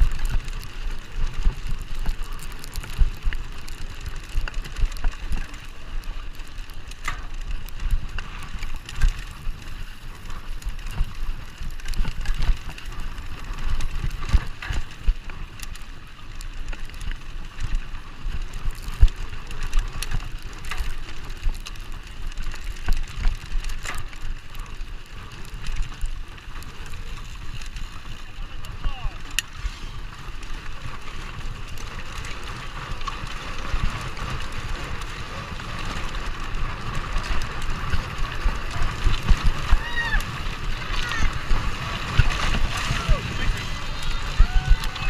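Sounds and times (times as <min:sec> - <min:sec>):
bike knocking and rattling: 0:00.0 - 0:45.0
tyres on dirt track: 0:00.0 - 0:45.0.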